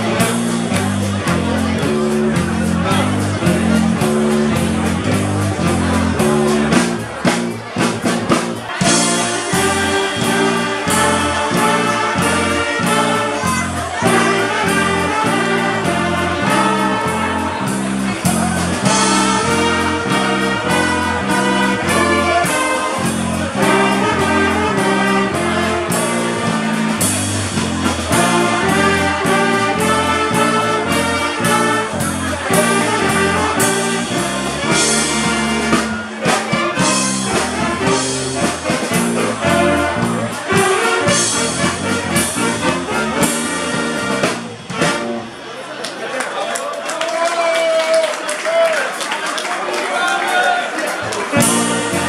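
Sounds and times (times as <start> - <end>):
drum hits: 0.0 - 45.4
wind band playing a march: 0.0 - 45.6, 51.2 - 52.0.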